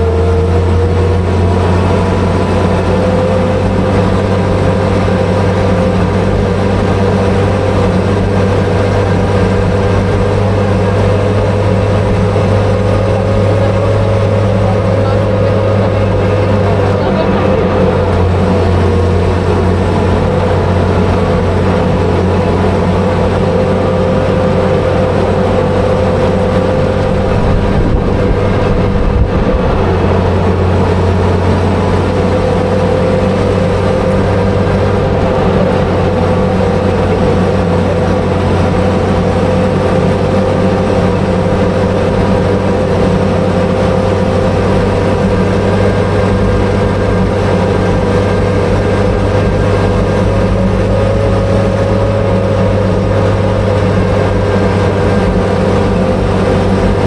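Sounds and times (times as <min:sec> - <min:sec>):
vehicle engine running under load: 0:00.0 - 0:57.0.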